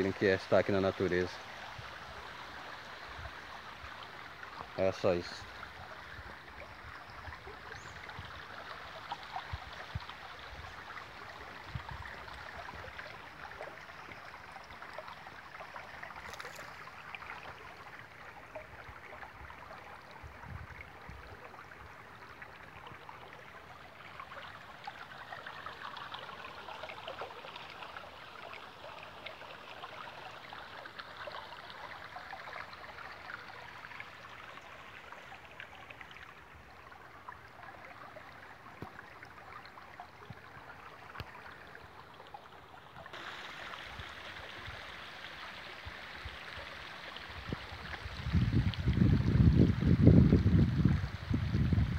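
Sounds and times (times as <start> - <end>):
stream water running over rock: 0.0 - 51.9.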